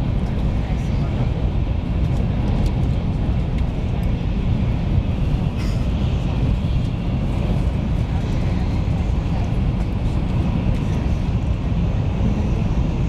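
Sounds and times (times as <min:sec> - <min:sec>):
train rumbling in motion: 0:00.0 - 0:13.0.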